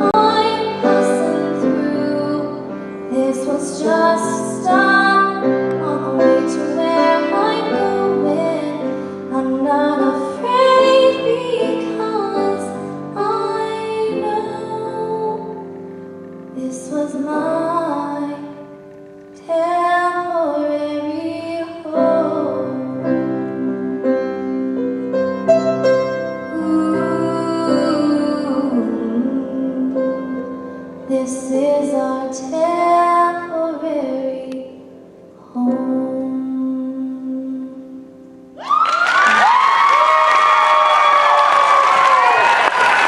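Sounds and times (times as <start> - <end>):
woman singing a slow ballad: 0.0 - 15.8, 16.5 - 18.7, 19.3 - 24.4, 26.5 - 38.2
grand piano: 0.0 - 43.0.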